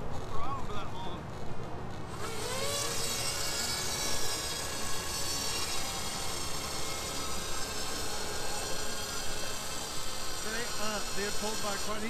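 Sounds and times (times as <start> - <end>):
drone motors high-pitched buzz: 0.0 - 12.0.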